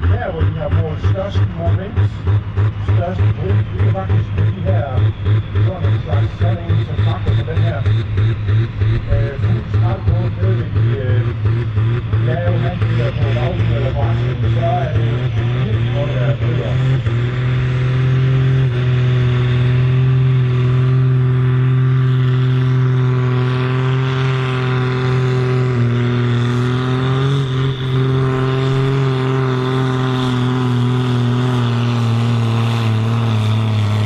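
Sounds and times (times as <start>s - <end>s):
tractor diesel engine at full throttle: 0.0s - 34.0s.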